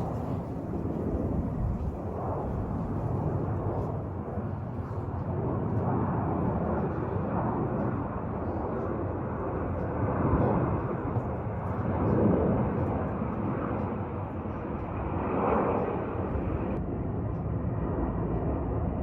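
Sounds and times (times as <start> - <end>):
jet airliner engines flying by: 0.0 - 19.0.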